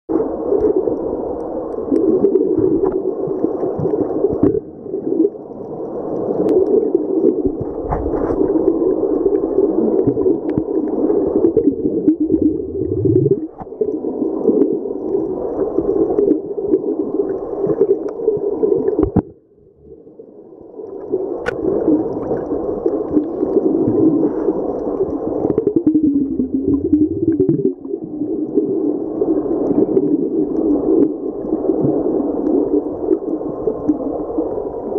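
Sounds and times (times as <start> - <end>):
underwater churning water: 0.1 - 34.9.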